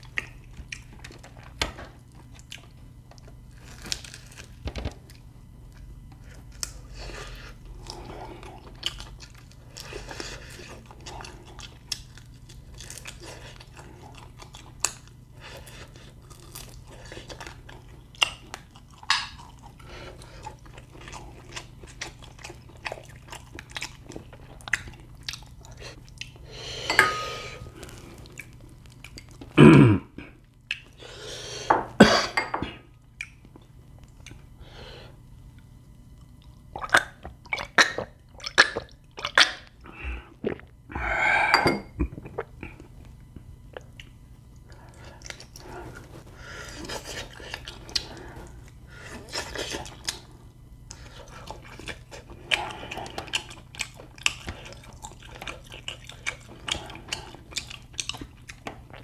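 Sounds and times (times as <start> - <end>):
person chewing and crunching food: 0.0 - 32.0, 32.7 - 59.0
low steady hum: 0.0 - 59.0.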